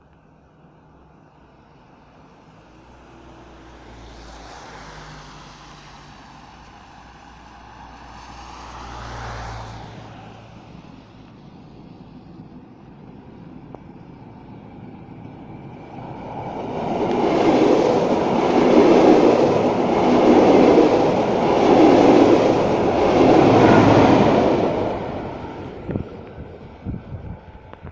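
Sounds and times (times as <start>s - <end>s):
diesel locomotive engine: 0.0s - 27.9s.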